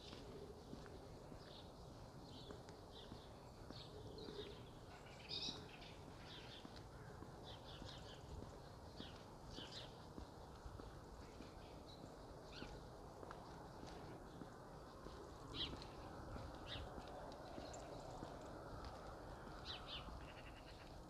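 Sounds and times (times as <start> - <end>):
small birds chirping: 0.0 - 21.0
soft footsteps on pavement: 0.0 - 21.0.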